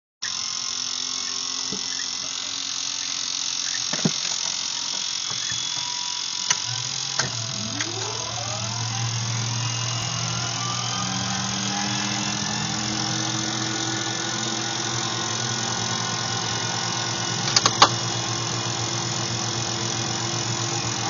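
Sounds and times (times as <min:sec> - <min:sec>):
turbine whine rising in pitch: 0:00.2 - 0:21.0
low hum: 0:00.3 - 0:21.0.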